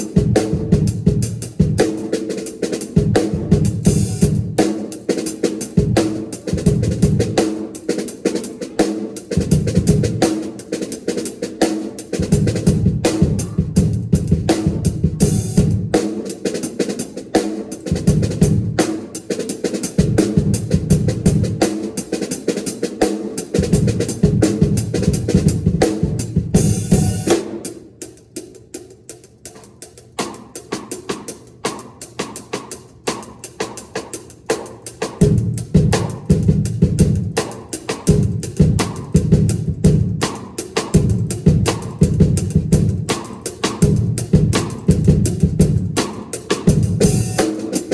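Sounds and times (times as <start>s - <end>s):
drum kit playing fast: 0.0s - 47.9s.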